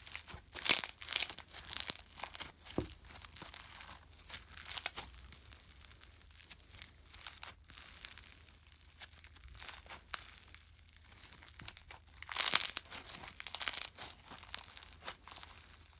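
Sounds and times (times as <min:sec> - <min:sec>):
foam slime crackling and popping: 0:00.0 - 0:15.9.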